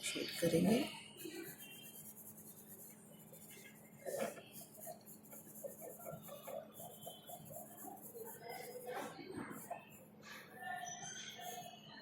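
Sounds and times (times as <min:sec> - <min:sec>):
pencil shading on paper: 0:00.4 - 0:11.9.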